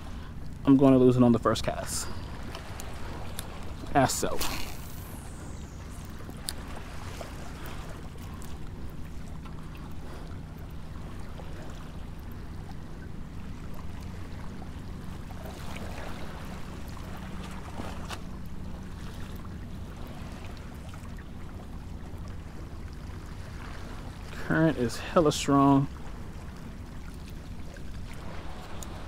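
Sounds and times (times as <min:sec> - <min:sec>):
low constant hum: 0:00.0 - 0:29.0
water noise: 0:00.0 - 0:29.0
wind: 0:00.0 - 0:29.0.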